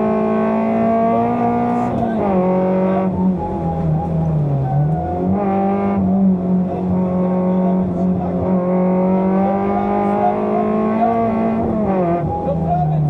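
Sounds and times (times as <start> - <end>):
car engine revving under hard driving: 0.0 - 13.0.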